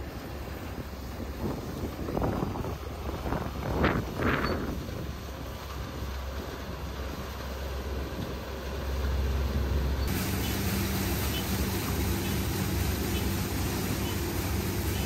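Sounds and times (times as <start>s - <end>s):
harvester engine rumbling: 0.0s - 15.0s.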